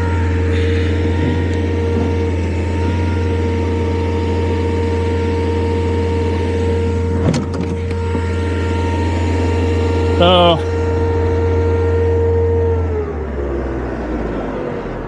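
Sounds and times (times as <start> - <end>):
skid-steer loader engine running: 0.0 - 15.0.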